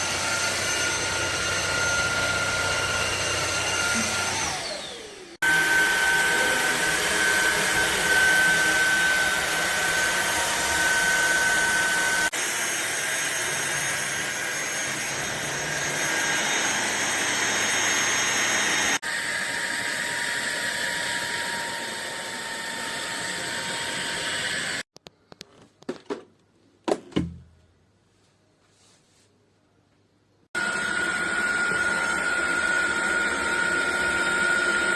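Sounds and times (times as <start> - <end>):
vacuum cleaner whine: 0.0 - 24.9, 30.6 - 34.9.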